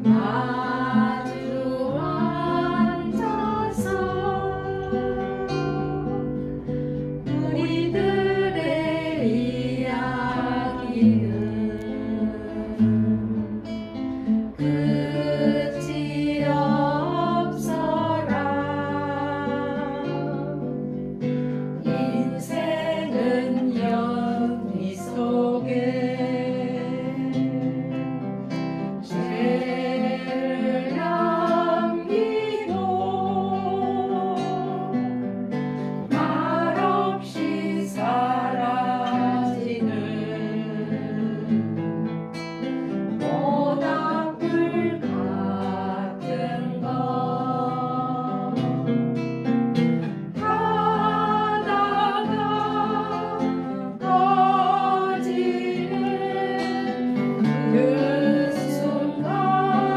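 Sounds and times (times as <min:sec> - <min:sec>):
woman singing: 0:00.0 - 0:20.8, 0:21.8 - 0:41.8, 0:43.1 - 0:48.9, 0:50.2 - 0:59.9
guitar accompaniment: 0:00.0 - 0:59.9.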